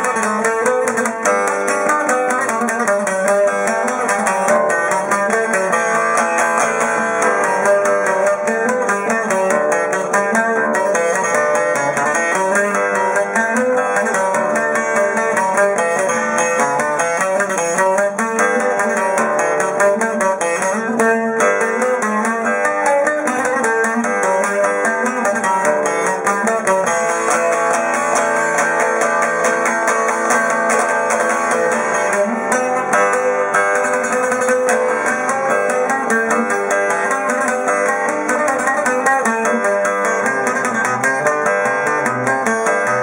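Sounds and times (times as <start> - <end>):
lute picked melody: 0.0 - 43.0.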